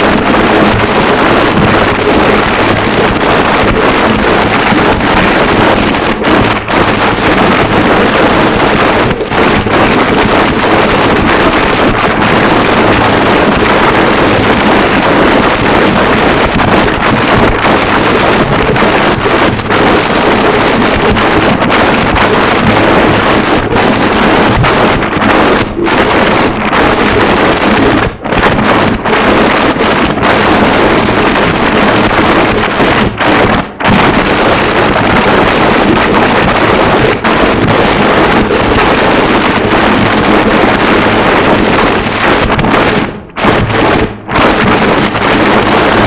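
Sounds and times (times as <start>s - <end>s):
dense distorted static: 0.0s - 46.0s.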